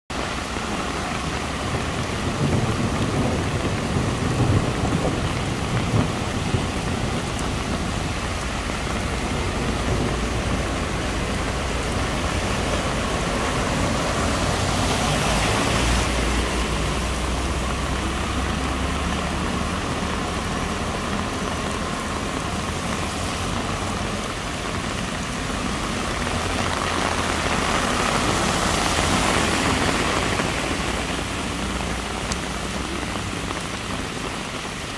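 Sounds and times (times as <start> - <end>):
heavy rain pouring: 0.1 - 34.9
tyres swishing through water: 0.1 - 34.9.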